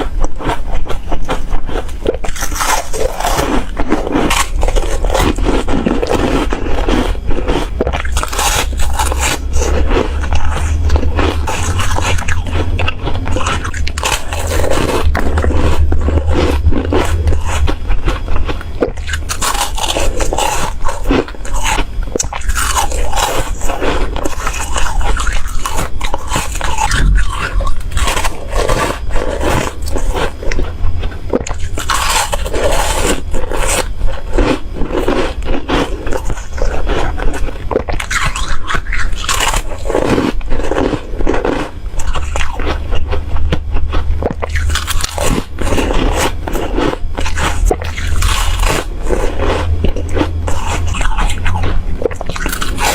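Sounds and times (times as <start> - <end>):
biting and chewing crispy foam: 0.0 - 52.9.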